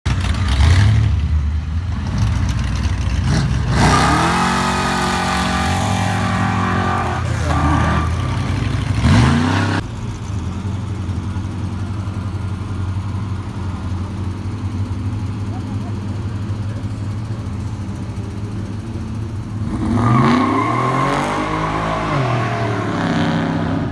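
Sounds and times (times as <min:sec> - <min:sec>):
car engines revving: 0:00.1 - 0:23.9.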